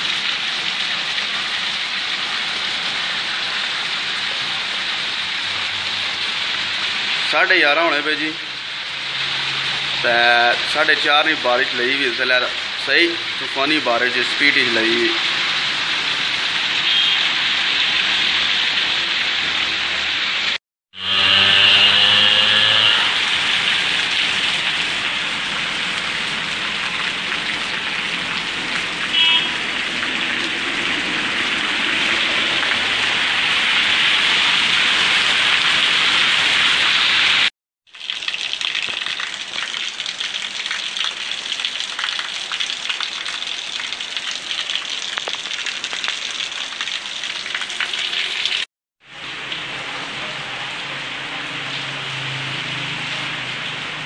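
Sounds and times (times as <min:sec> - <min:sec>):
heavy rain on pavement: 0:00.0 - 0:20.6, 0:22.9 - 0:54.0.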